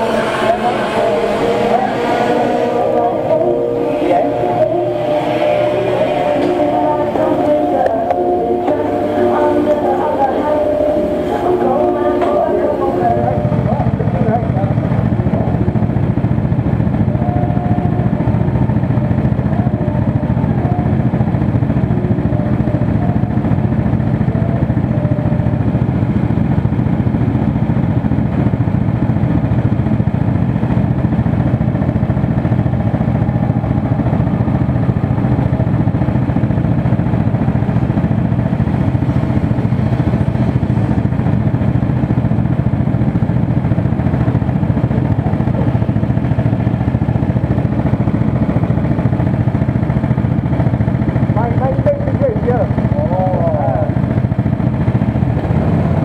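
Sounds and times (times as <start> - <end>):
go-kart engine idling: 0.0 - 56.0.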